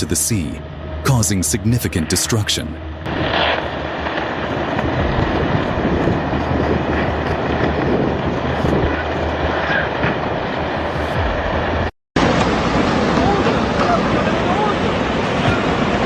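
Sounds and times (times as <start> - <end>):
landslide rumbling: 0.0 - 16.0.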